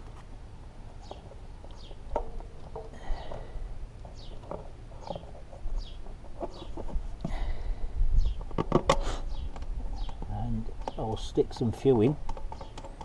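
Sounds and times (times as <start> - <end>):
birds chirping: 0.9 - 13.0.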